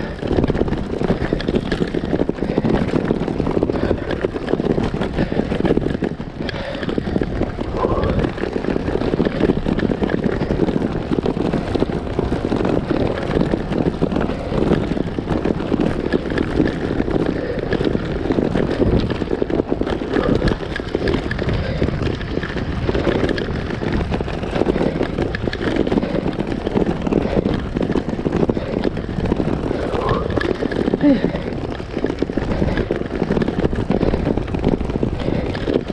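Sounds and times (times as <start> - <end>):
bike rattling over cobblestones: 0.0 - 35.9.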